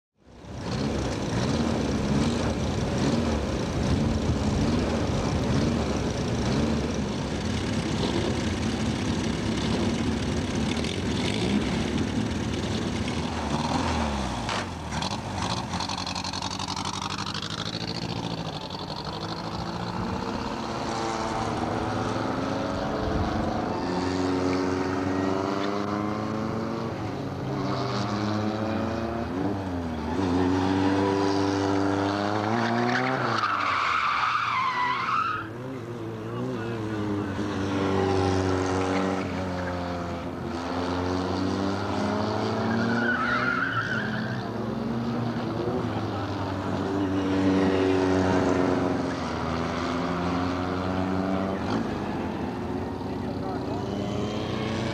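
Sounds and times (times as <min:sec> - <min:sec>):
race car engine revving: 0:00.5 - 0:54.9.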